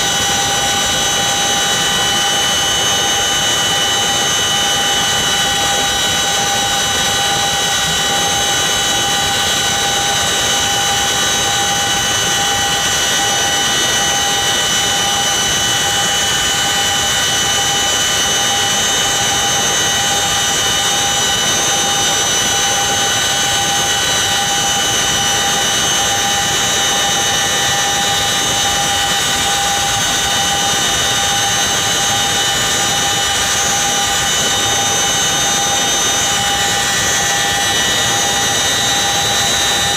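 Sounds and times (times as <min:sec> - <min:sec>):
helicopter engine whines: 0:00.0 - 0:39.9.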